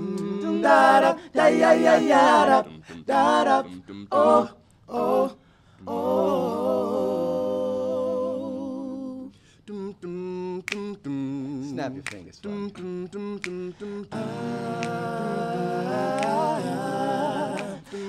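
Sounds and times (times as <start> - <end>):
male vocal quartet singing: 0.0 - 18.0.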